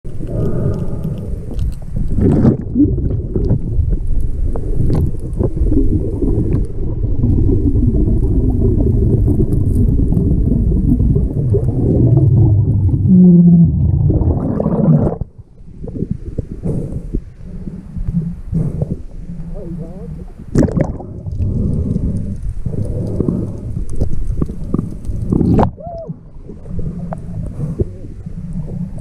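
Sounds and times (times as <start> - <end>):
muffled underwater rumbling: 0.0 - 29.0.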